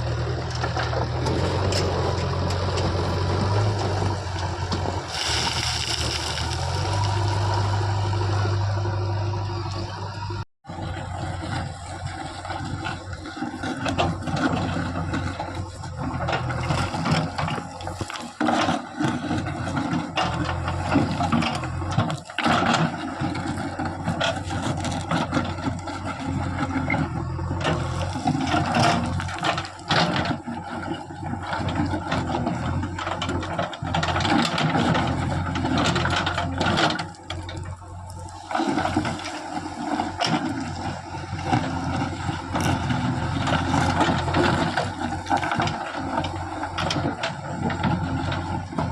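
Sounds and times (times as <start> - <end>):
bucket clanking and rattling: 0.0 - 8.0, 11.0 - 48.9
soil spilling: 0.0 - 9.1, 10.8 - 48.9
backhoe diesel engine running: 0.0 - 48.9.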